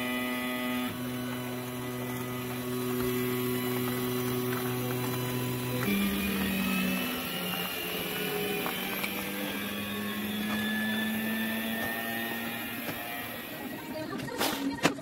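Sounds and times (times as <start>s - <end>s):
machine drive motors whining: 0.0s - 15.0s.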